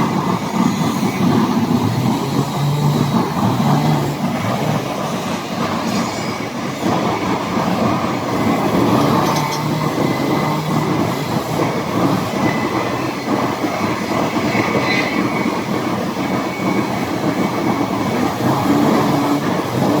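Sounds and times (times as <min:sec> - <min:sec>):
band saw machine rumbling: 0:00.0 - 0:20.0.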